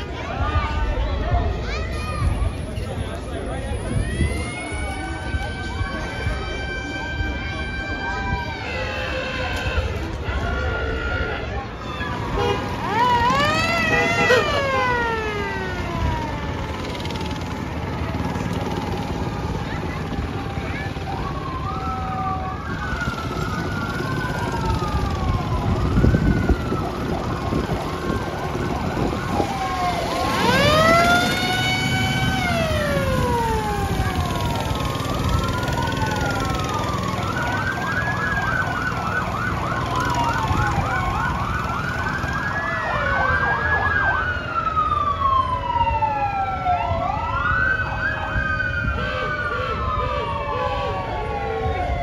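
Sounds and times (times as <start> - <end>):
emergency sirens wailing: 0.0 - 52.0
siren yelping: 3.8 - 17.6, 18.3 - 52.0.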